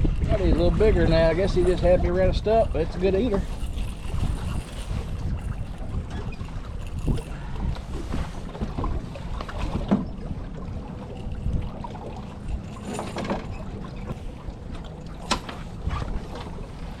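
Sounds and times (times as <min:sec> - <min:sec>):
knocks and clatters in boat: 0:00.0 - 0:17.0
wind rumbling on microphone: 0:00.0 - 0:17.0.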